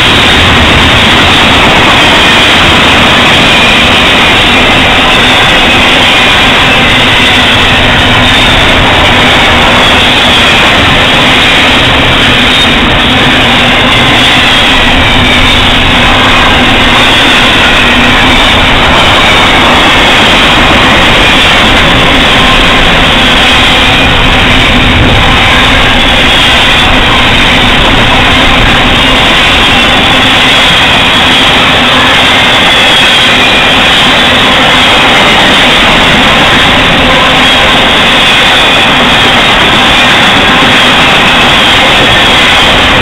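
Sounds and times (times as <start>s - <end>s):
steel train wheels rolling on rails: 0.0s - 43.0s.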